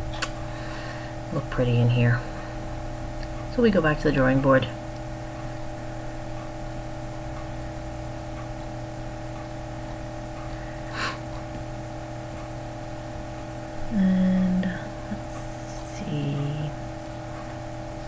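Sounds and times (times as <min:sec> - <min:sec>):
background hum and whir: 0:00.0 - 0:18.0.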